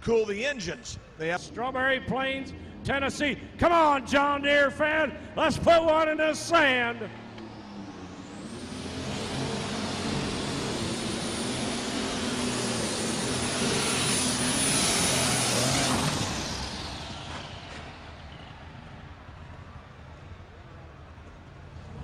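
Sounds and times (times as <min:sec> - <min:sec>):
tractor engine under full power: 0:00.0 - 0:22.0.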